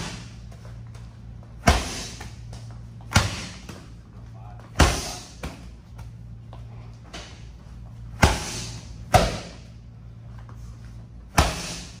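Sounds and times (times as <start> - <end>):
medicine balls thudding in gym: 0.0 - 10.0, 11.1 - 12.0.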